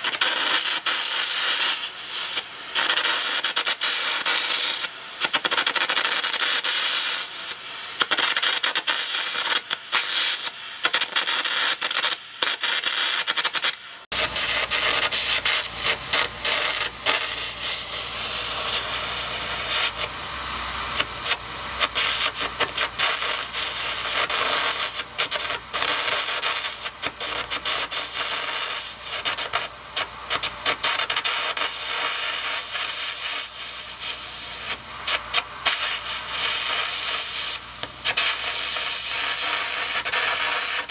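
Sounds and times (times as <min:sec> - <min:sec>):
carbon arc gouging crackling hiss: 0:00.0 - 0:40.9.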